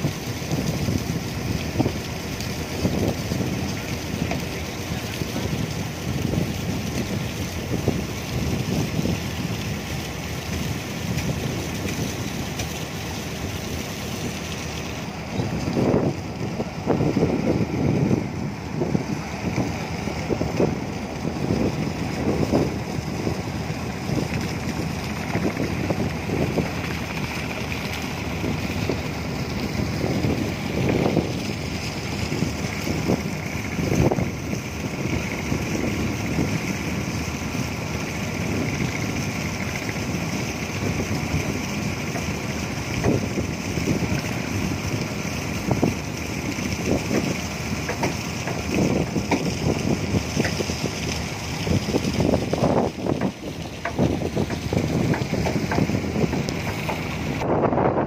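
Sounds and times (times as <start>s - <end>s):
boat engine drone: 0.0s - 58.0s
wind buffeting microphone: 0.0s - 58.0s.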